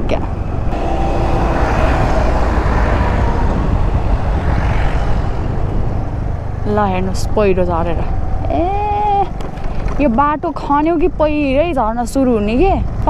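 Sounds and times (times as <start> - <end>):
motor scooter engine: 0.0 - 10.8
wind rumble on microphone: 0.0 - 13.0.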